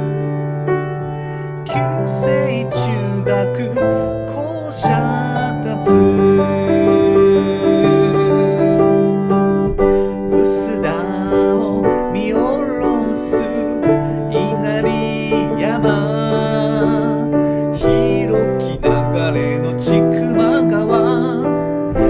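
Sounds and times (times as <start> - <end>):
person singing with vibrato: 0.0 - 22.0
piano chords: 0.0 - 22.0.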